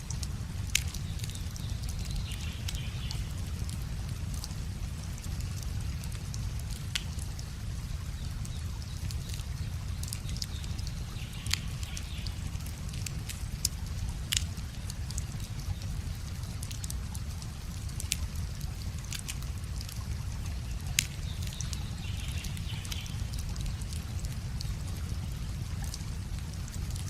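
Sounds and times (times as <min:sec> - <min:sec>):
flowing river water: 0:00.0 - 0:27.0
wood fire crackling and popping: 0:00.0 - 0:27.0.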